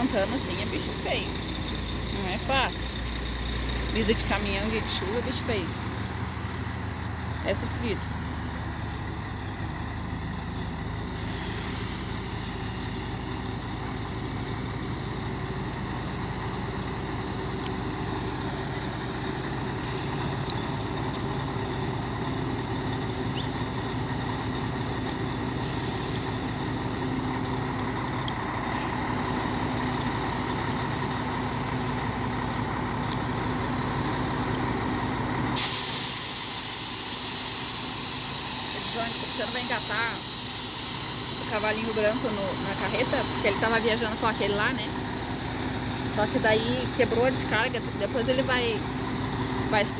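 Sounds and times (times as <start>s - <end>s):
truck diesel engine running: 0.0s - 49.9s.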